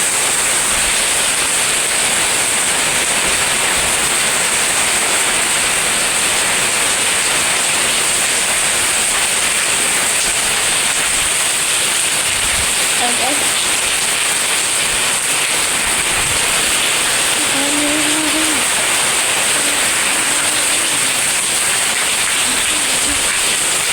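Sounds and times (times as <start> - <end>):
heavy rain: 0.0 - 23.9.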